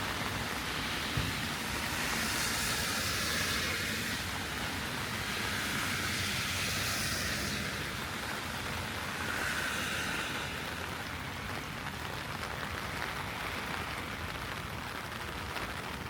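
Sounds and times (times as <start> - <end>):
heavy rain on street: 0.0 - 16.0.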